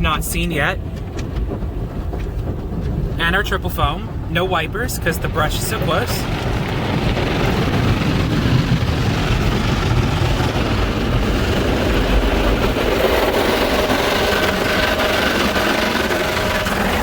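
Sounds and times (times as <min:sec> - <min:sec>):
car wash brushes and spray: 0:00.0 - 0:17.0.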